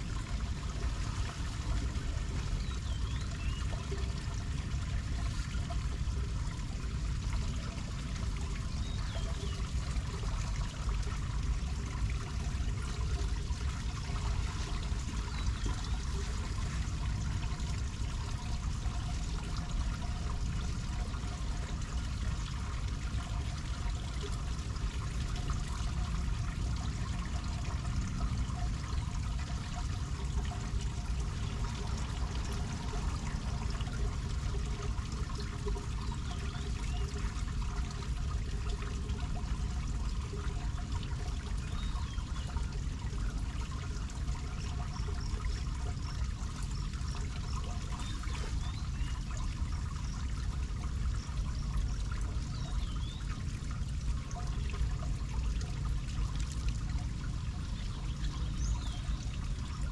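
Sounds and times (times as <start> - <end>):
water pouring through drain grate: 0.0 - 59.9.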